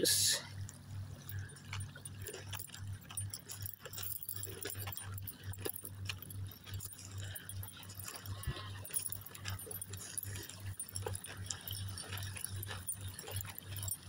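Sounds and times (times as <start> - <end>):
faint clicks and rustles: 0.5 - 14.0.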